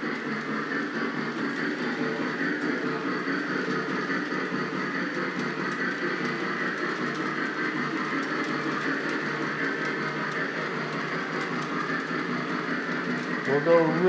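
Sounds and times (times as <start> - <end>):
model train motor and wheels: 0.0 - 14.0.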